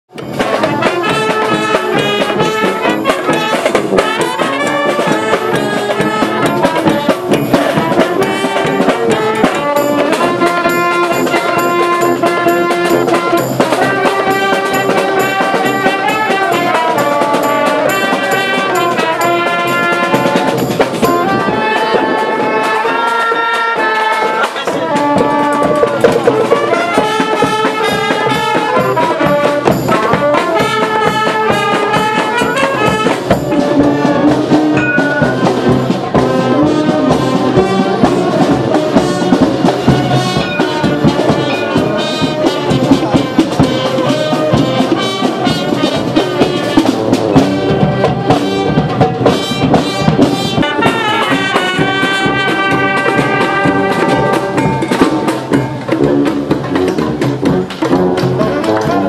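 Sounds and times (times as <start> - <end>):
bass drum and snare beat: 0.1 - 59.0
brass band playing: 0.1 - 59.0.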